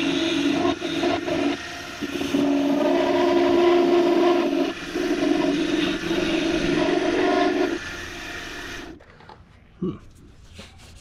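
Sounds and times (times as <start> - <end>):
gouge cutting wood shavings hiss: 0.0 - 9.0
wood lathe hum: 0.0 - 9.0.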